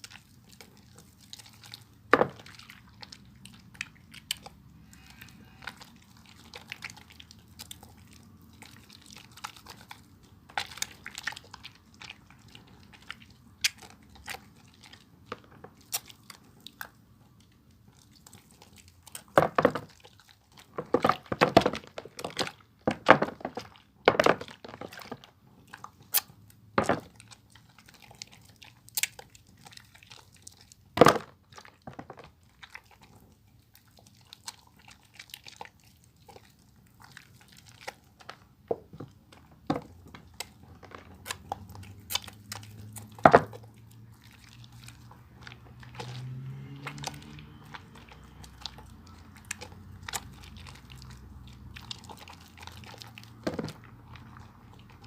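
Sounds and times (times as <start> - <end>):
soap lathering wet squishing: 0.0 - 55.0.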